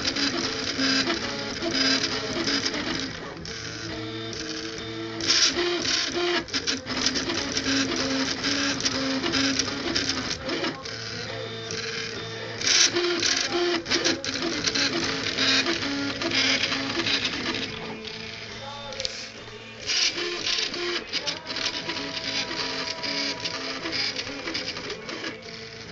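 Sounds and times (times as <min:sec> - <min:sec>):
printer frame rattling: 0:00.0 - 0:11.1, 0:11.7 - 0:18.3, 0:19.8 - 0:25.9
stepper motors whining: 0:00.0 - 0:25.9.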